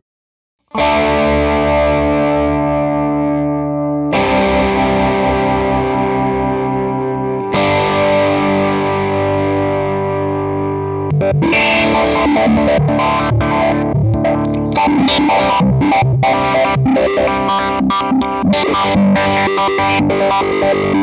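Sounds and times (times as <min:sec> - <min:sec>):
distorted electric guitar chords: 0:00.7 - 0:21.0.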